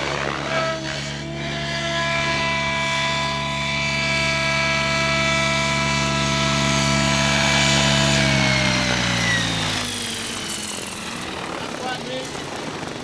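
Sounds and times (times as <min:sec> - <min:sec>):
electric motor whine: 0:00.0 - 0:13.0
low rotor hum: 0:00.0 - 0:13.0.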